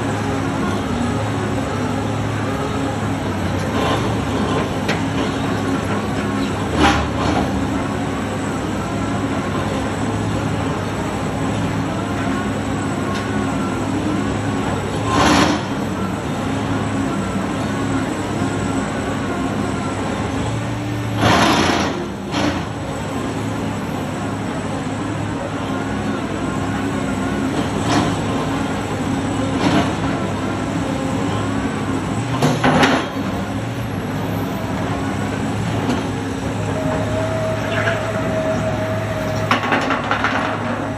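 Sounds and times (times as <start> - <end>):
heavy machinery humming: 0.0 - 40.9.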